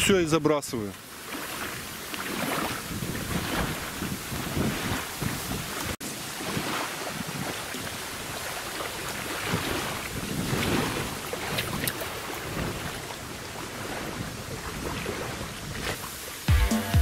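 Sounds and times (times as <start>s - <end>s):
water lapping at bank: 0.0s - 16.5s
wind buffeting microphone: 1.5s - 16.1s.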